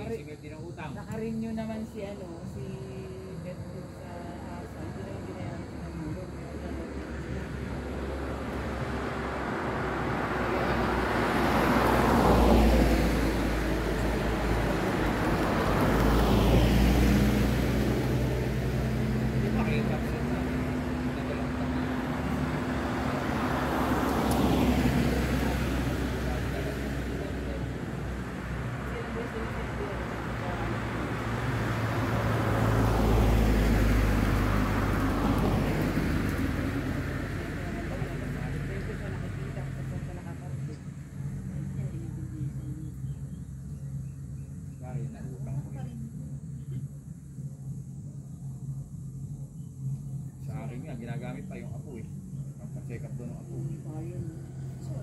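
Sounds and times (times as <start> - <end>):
steady low hum: 0.0 - 55.0
vehicles passing by: 0.0 - 55.0.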